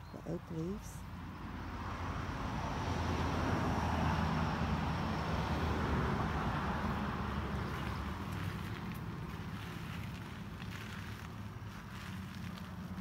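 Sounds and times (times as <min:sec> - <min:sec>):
vehicle passing by: 0:00.3 - 0:13.0.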